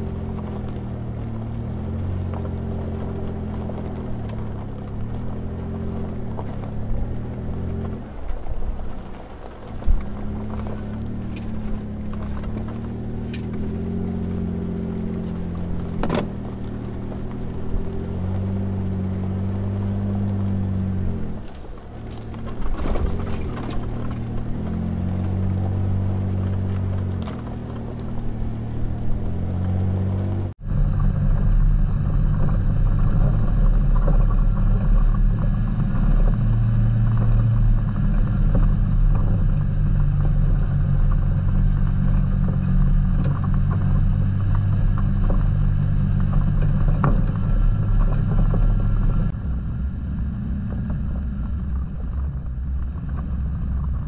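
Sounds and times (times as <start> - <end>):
off-road vehicle engine droning: 0.0 - 54.0.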